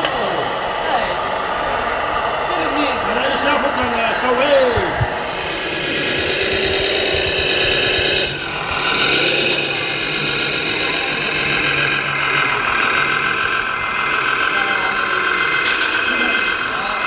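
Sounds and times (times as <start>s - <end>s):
model truck diesel engine sound: 0.0s - 17.0s.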